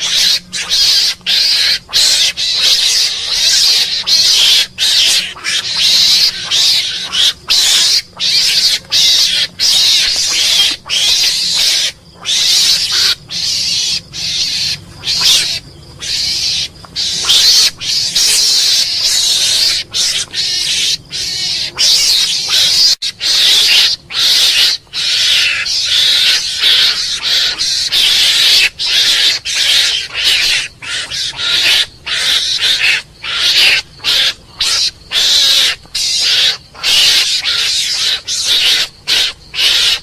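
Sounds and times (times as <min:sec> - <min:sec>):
mongoose hissing calls: 0:00.0 - 0:40.0.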